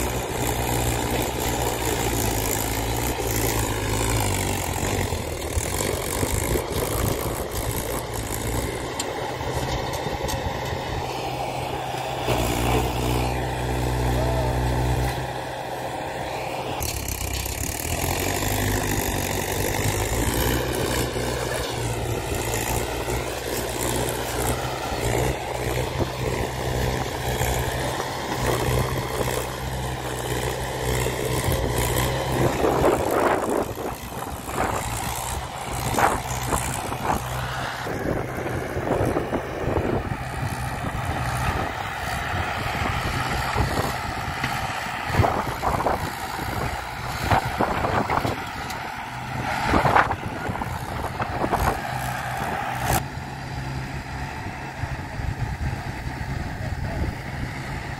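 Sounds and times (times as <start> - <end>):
tractor diesel engine labouring: 0.0 - 57.9.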